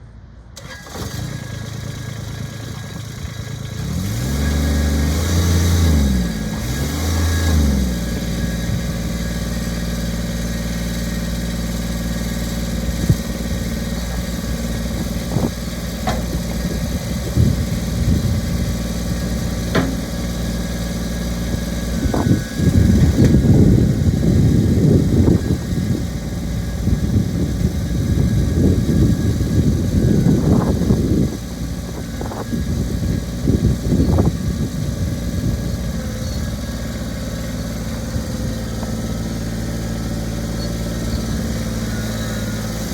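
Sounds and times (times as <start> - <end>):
tractor diesel engine revving: 0.6 - 42.9.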